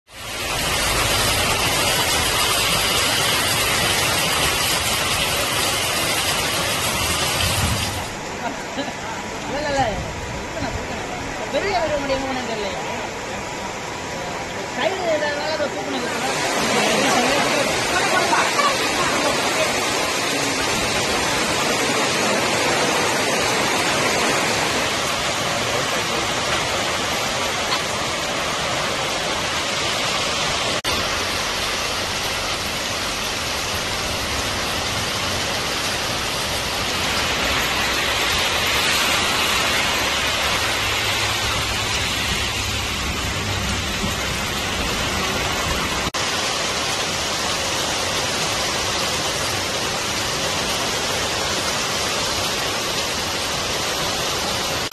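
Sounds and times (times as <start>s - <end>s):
heavy rain hissing: 0.1s - 54.9s.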